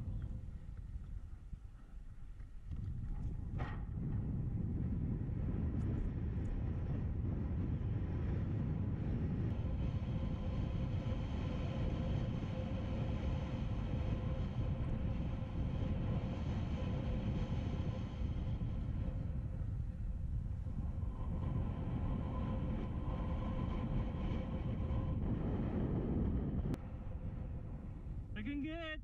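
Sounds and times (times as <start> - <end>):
faint steady hum: 0.0 - 29.0
wind buffeting microphone: 0.0 - 29.0.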